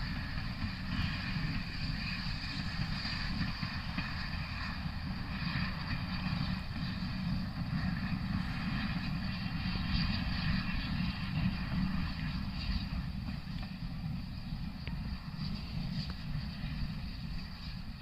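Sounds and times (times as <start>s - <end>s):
steam locomotive rumbling: 0.0s - 18.0s
wind on microphone: 0.0s - 18.0s.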